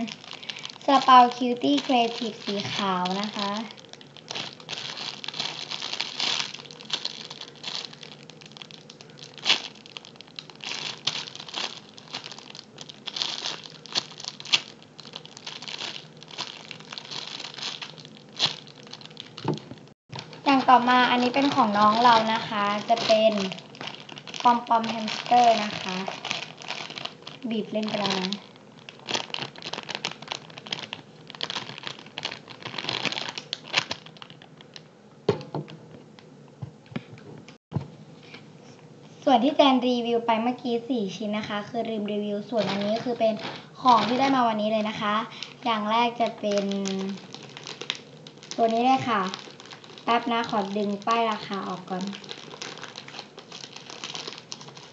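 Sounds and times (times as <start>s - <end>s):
plastic bag crinkling: 0.0s - 35.7s, 42.4s - 54.9s.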